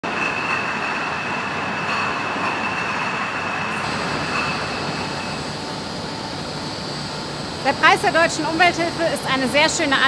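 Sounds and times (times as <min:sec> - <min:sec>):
bottling machine noise: 0:00.0 - 0:10.0
thin high whine: 0:00.1 - 0:09.1.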